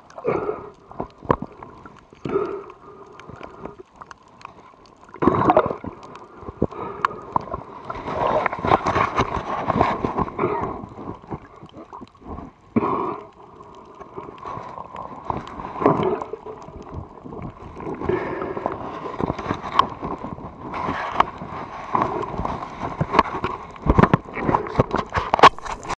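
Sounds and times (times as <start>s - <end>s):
muffled underwater gurgling and sloshing: 0.0s - 26.0s.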